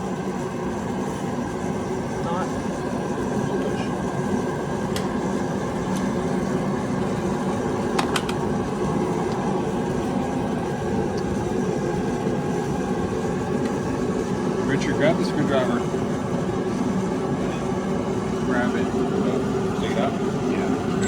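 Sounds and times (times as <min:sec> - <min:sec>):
heater droning: 0:00.0 - 0:21.0.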